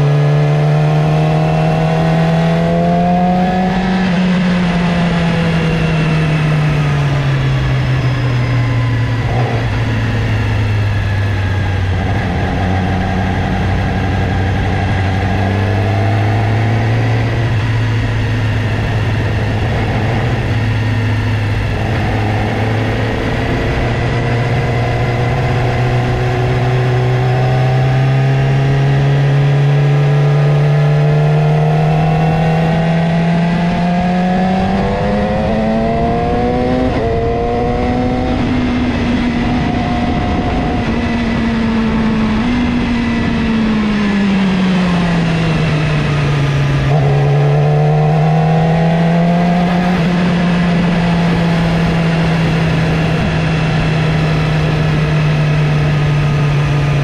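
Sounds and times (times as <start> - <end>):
motorcycle engine: 0.0 - 57.0.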